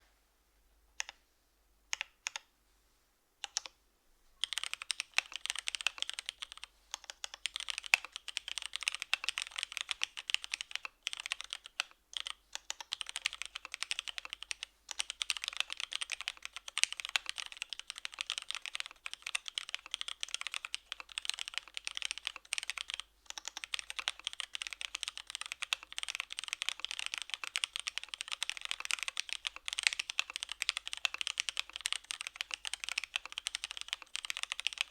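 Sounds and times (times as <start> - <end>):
typing on mechanical keyboard: 3.4 - 3.7, 4.4 - 34.9.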